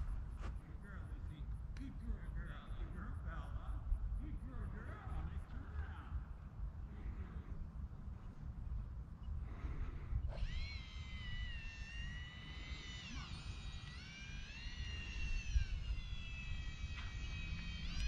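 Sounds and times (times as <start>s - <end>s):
electric ducted fan whining: 0.0s - 18.0s
wind rumble on microphone: 0.0s - 18.0s.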